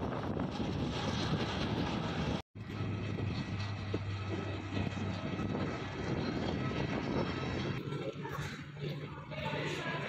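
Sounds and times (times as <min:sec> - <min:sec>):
outdoor noise: 0:00.0 - 0:10.0
propeller airliner droning overhead: 0:00.0 - 0:10.0.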